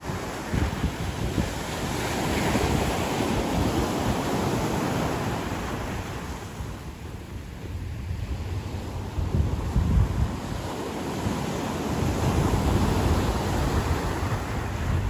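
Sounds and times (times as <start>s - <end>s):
ocean surf washing up beach: 0.0s - 15.0s
wind rumbling on microphone: 0.0s - 15.0s.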